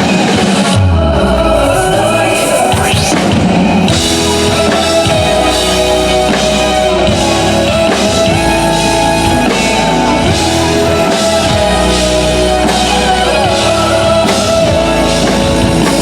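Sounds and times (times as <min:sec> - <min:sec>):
live pop-rock band music: 0:00.0 - 0:16.0.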